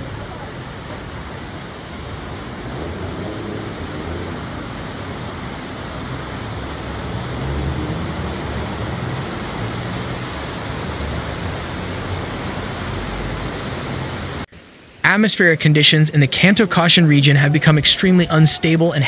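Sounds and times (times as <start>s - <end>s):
heavy rain: 0.0s - 19.0s
rushing floodwater: 0.0s - 19.0s.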